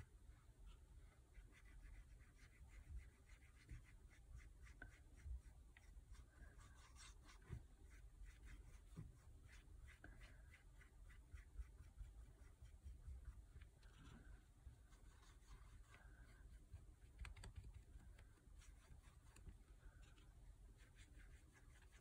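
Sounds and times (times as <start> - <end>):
paintbrush scratching on wood: 0.3 - 22.0.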